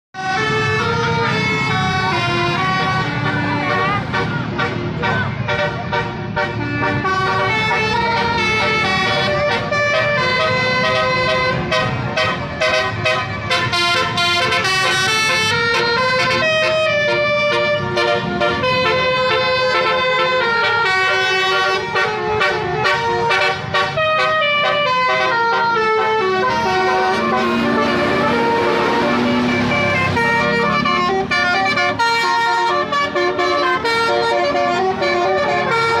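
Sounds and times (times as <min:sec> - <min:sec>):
multi-tone bus horn playing a tune: 0:00.2 - 0:36.0.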